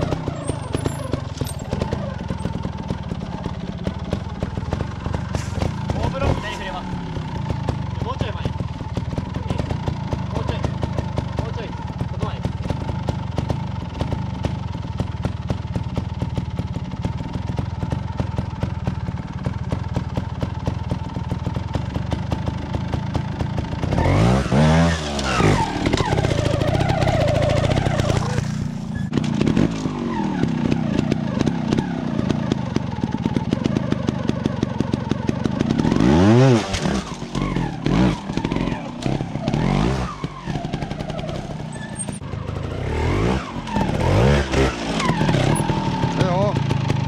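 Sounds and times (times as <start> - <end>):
motorcycle throttle blips: 0.0 - 21.8, 22.5 - 47.0
motorcycle engine at low revs: 0.0 - 47.0.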